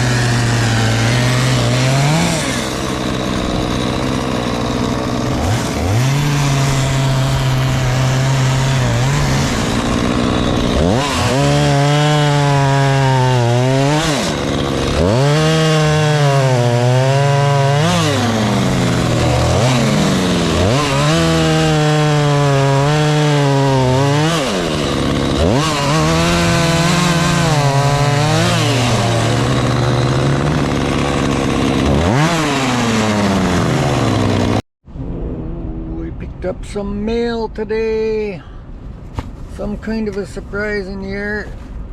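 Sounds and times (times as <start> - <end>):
chainsaw revving and cutting wood: 0.0 - 34.6.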